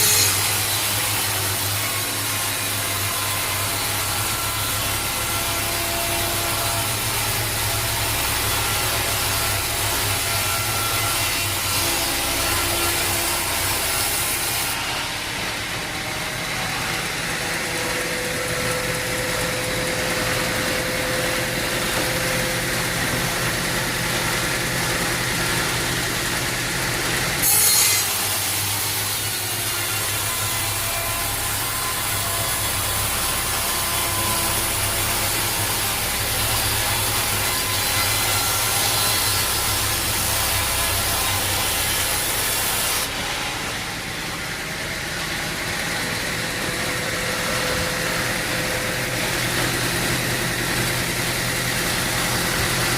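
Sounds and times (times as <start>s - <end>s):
saw cutting through wood: 0.0s - 52.9s.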